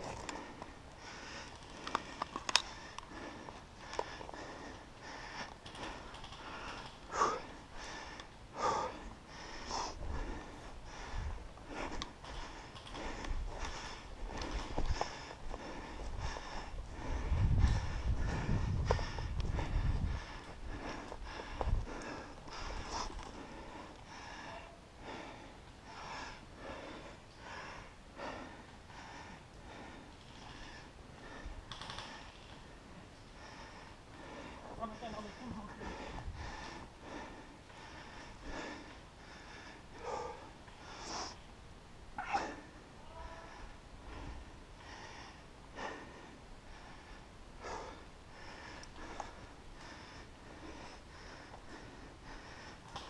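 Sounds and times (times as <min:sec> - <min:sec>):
person breathing hard: 0:00.0 - 0:41.5, 0:42.2 - 0:53.0.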